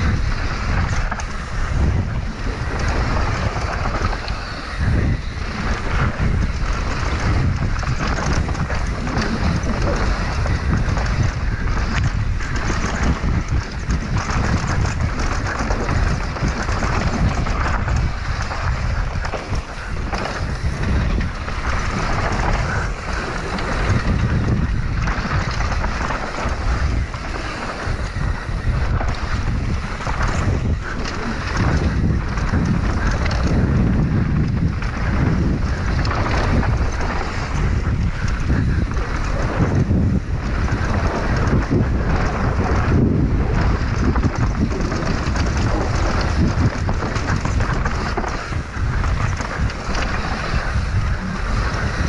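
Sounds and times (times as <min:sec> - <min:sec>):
bike knocking and rattling: 0:00.0 - 0:52.0
knobby tyres on dirt: 0:00.0 - 0:52.0
wind buffeting microphone: 0:00.0 - 0:52.0.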